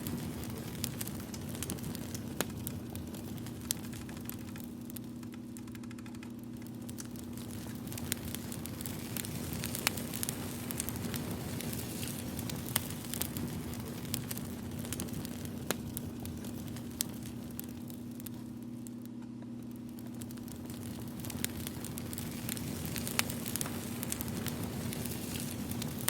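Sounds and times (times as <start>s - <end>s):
steady low hum: 0.0s - 26.0s
wood fire crackling and popping: 0.0s - 26.0s.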